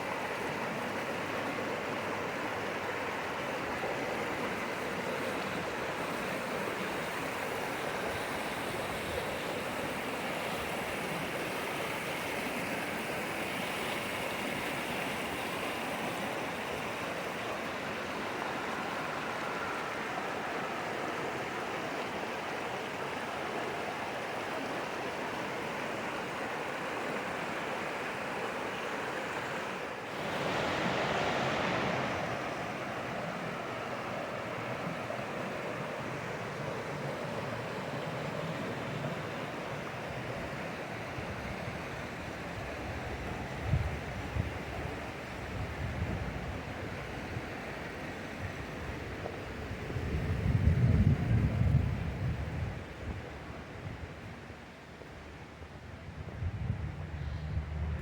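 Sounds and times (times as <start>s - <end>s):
water rushing: 0.0s - 56.3s.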